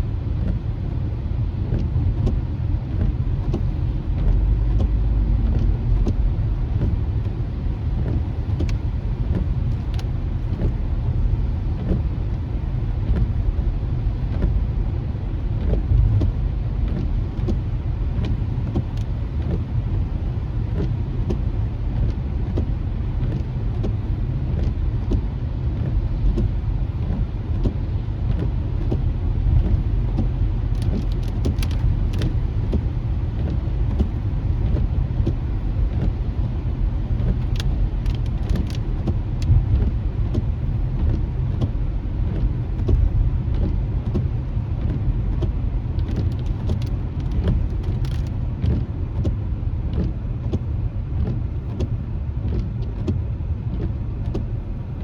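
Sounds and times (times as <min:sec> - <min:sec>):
car road rumble on wet streets: 0:00.0 - 0:55.0.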